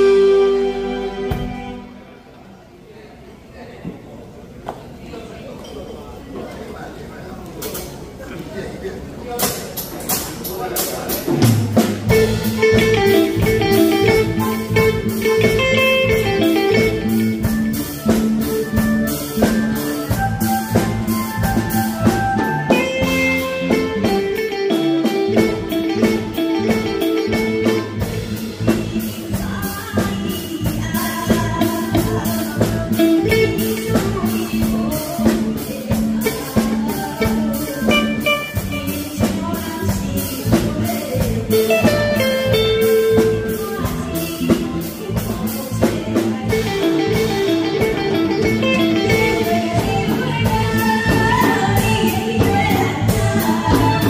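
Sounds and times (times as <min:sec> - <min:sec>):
drum kit beat: 0:00.0 - 0:01.9, 0:09.4 - 0:54.0
electric guitar: 0:00.0 - 0:02.0, 0:11.3 - 0:54.0
keyboard: 0:00.0 - 0:02.4, 0:09.8 - 0:54.0.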